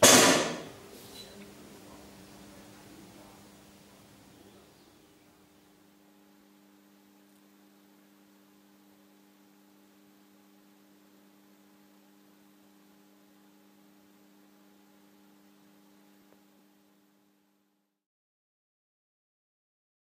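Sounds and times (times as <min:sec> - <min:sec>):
faint low hum with hiss: 0:00.0 - 0:18.0.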